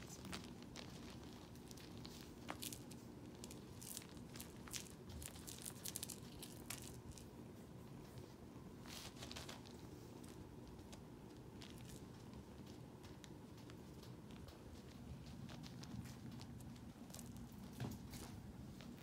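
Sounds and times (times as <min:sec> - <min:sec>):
kittens' claws scratching fleece: 0:00.0 - 0:19.0.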